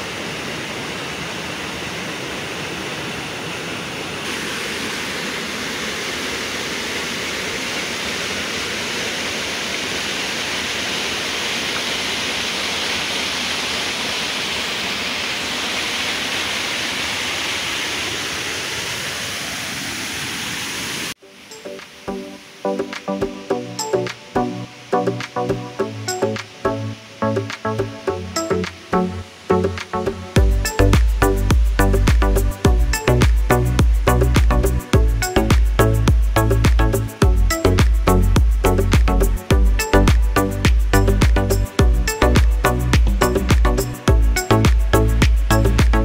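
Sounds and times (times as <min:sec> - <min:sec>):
river rushing: 0:00.0 - 0:46.0.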